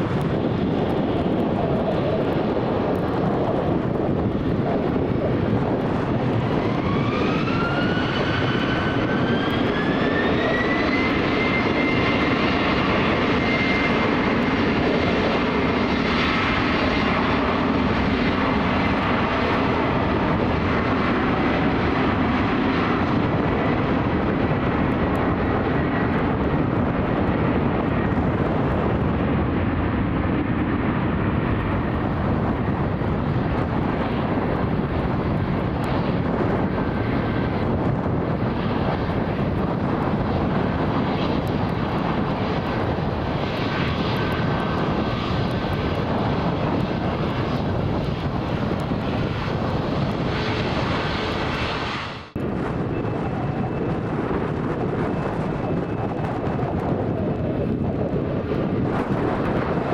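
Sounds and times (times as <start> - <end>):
jet engines spooling up: 0.0 - 25.9, 30.6 - 59.9.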